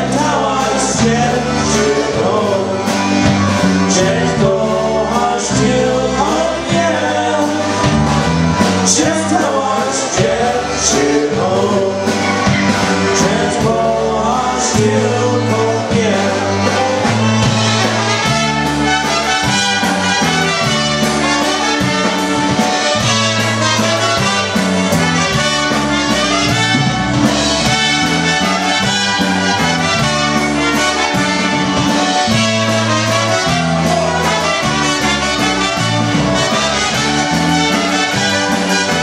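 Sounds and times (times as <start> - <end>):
bass line: 0.0 - 39.0
concertina: 0.0 - 39.0
drums: 0.0 - 39.0
trumpet melody: 0.0 - 39.0.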